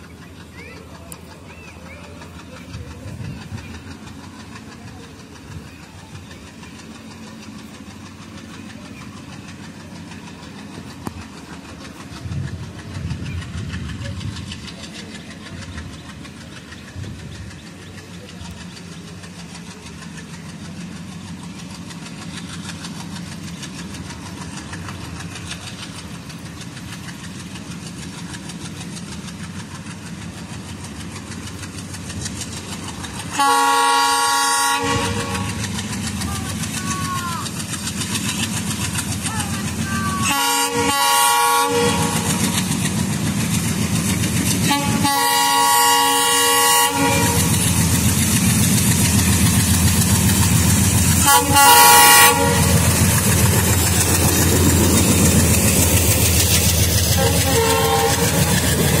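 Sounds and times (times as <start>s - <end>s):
diesel locomotive humming: 0.0s - 59.0s.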